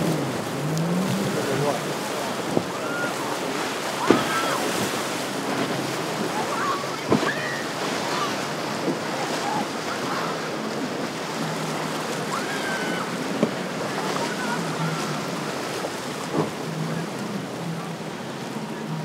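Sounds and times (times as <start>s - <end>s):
faint outboard motor: 0.0s - 19.0s
waves breaking: 0.0s - 19.0s.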